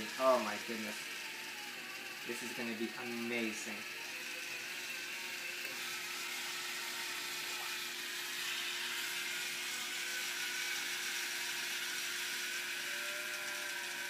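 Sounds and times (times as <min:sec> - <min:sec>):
electric can opener running: 0:00.0 - 0:14.0.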